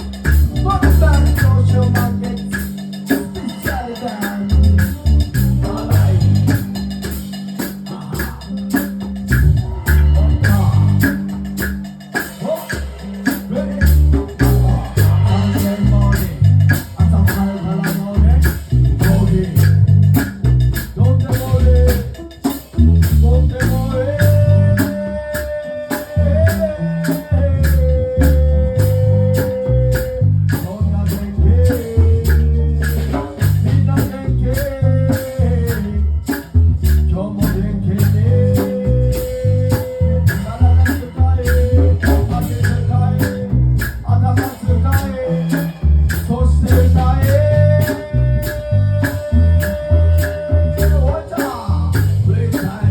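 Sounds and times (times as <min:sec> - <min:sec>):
bass guitar: 0:00.0 - 0:52.9
drum kit beat: 0:00.0 - 0:52.9.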